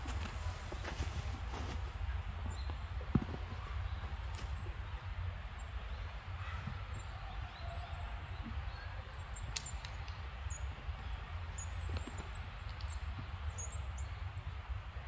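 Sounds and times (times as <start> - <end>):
small birds chirping: 0.4 - 15.0.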